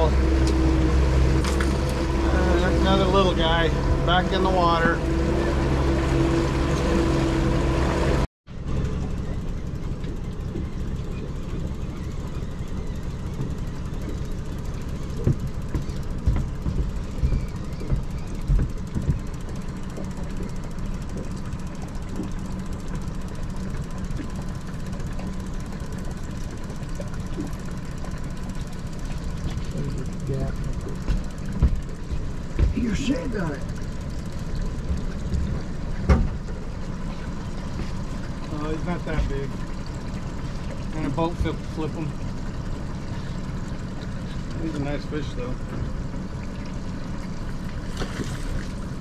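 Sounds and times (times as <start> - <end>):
outboard motor running: 0.0 - 49.0.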